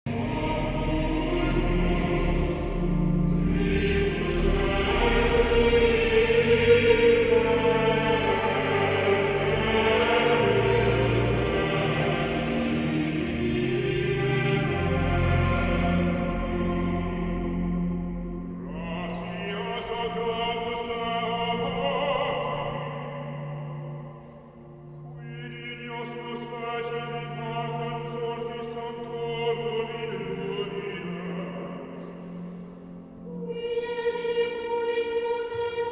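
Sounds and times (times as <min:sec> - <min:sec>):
choir singing chords: 0:00.1 - 0:35.9.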